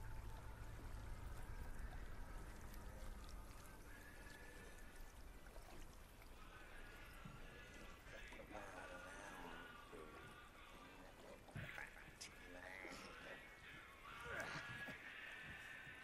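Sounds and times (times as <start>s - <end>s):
lake water lapping: 0.0s - 16.0s.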